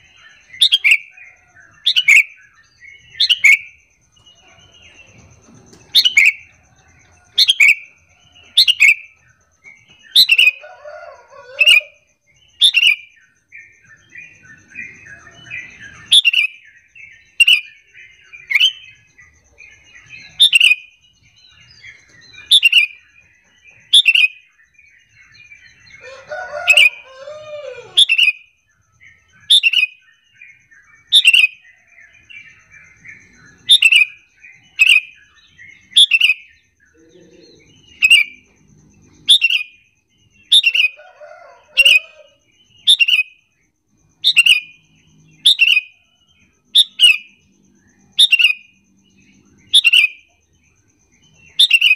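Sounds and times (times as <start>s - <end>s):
bird sharp chirps: 0.0s - 51.9s.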